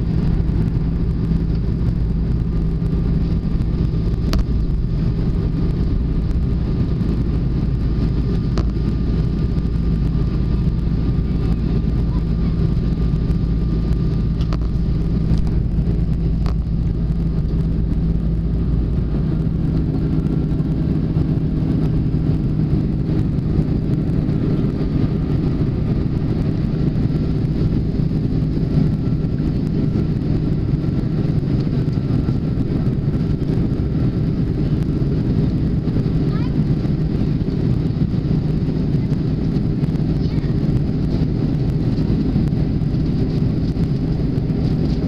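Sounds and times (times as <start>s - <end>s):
jet engines droning in cabin: 0.0s - 45.0s.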